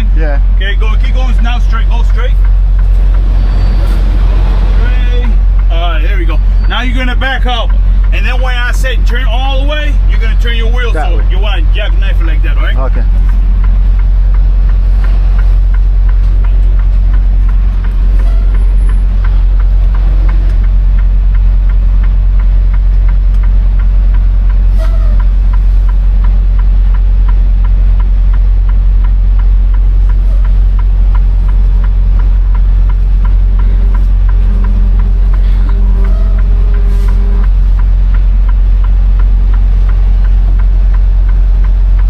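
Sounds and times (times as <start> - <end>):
light regular ticking: 0.0 - 3.6, 4.8 - 42.0
diesel truck engine running: 0.0 - 42.0.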